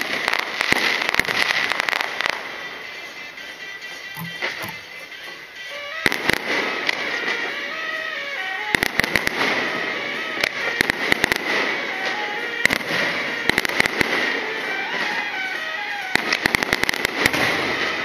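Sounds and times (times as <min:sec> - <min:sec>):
fireworks bangs and crackles: 0:00.0 - 0:18.0
music playing: 0:01.0 - 0:18.0.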